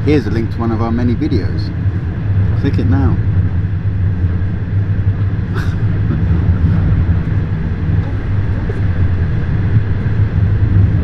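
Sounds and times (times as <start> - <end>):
deep hum: 0.0 - 11.0
vehicle rumble heard from inside: 0.0 - 11.0.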